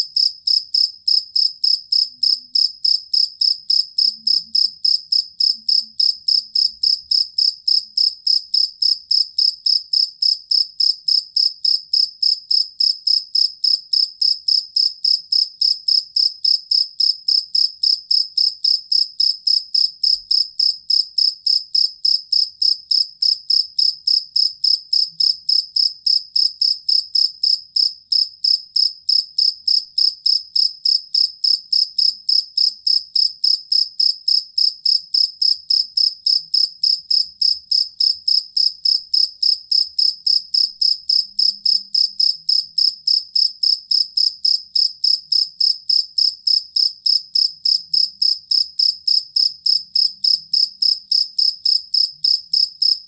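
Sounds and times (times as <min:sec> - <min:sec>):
field cricket chirping: 0:00.0 - 0:53.0.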